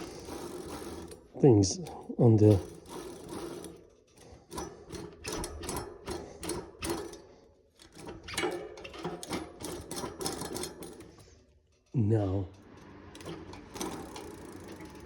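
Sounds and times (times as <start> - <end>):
bicycle chain scraping on sprockets: 0.0 - 11.9, 12.5 - 15.0.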